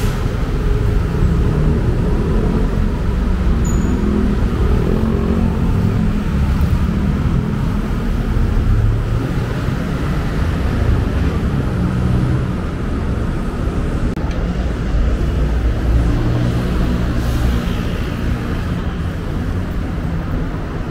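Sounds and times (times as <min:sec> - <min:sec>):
busy road traffic rumble: 0:00.0 - 0:20.9.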